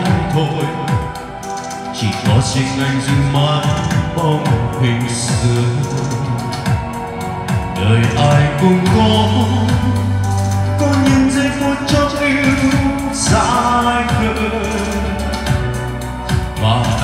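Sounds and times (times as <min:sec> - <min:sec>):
drum beat: 0:00.0 - 0:17.0
held bass line: 0:00.0 - 0:17.0
person singing: 0:00.0 - 0:17.0.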